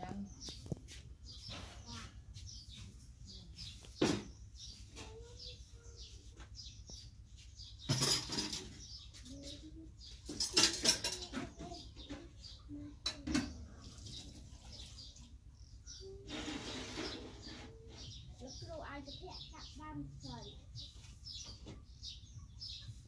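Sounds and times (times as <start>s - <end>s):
rustling or scraping noises: 0.0s - 12.7s, 13.3s - 23.0s.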